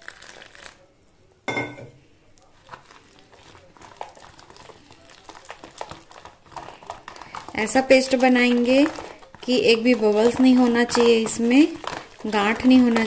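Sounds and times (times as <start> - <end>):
wire whisk beating batter in bowl: 2.4 - 13.0.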